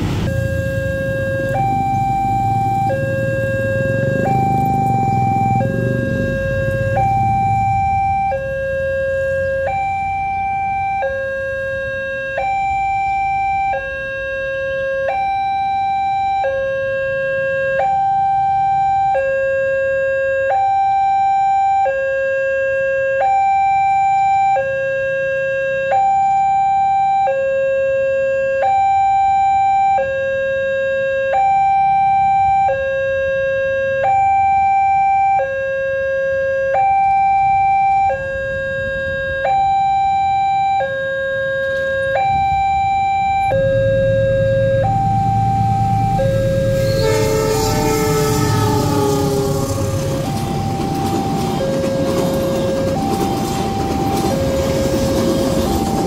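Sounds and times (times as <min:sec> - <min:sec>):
level crossing alarm two-tone: 0:00.2 - 0:56.0.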